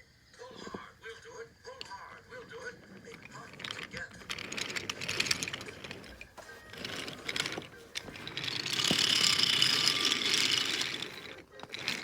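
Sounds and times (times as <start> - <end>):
wooden toy trains rattling on track: 1.7 - 12.0.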